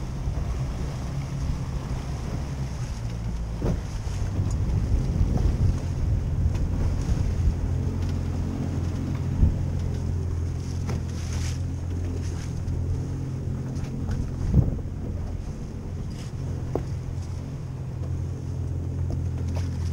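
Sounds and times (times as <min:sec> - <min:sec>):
boat engine idling: 0:00.0 - 0:19.9
wind buffeting microphone: 0:00.0 - 0:19.9.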